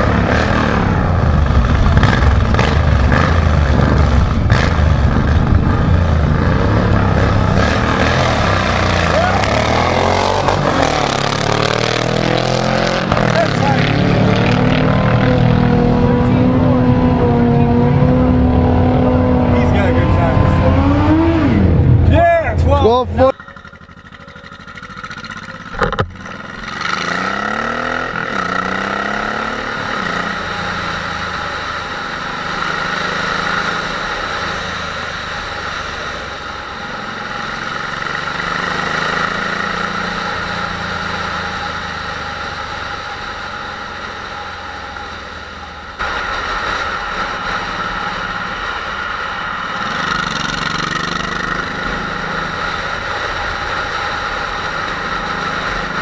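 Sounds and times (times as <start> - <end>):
motorcycle engine accelerating: 0.0 - 56.0
road and wind noise: 0.0 - 56.0.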